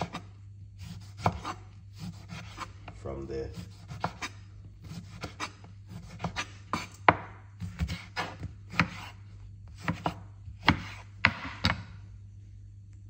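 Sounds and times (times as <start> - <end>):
knife cutting on wooden board: 0.0 - 11.9.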